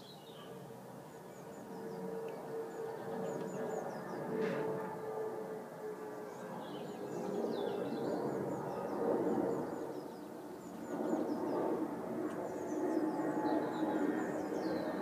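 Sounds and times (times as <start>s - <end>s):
small birds chirping: 0.0s - 4.4s, 6.3s - 15.0s
outdoor background hum: 0.0s - 15.0s.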